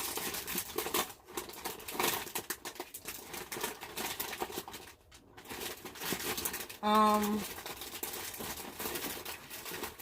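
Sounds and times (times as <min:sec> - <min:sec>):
snack packets crinkling: 0:00.0 - 0:10.0.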